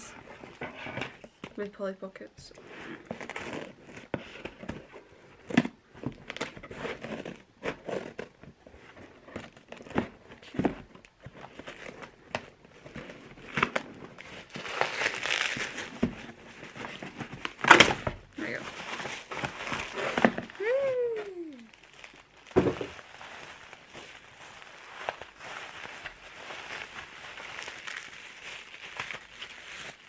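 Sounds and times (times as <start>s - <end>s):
bubble wrap crinkling: 2.6s - 30.0s.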